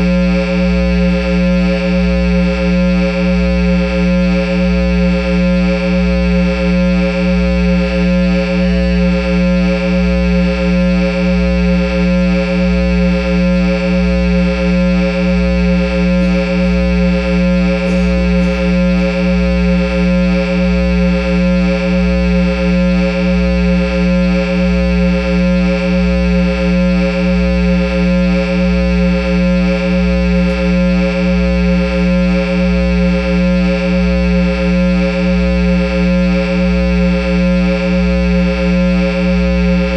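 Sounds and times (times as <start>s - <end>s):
guitar amplifier drone: 0.0s - 39.9s
low amplifier hum: 0.0s - 39.9s.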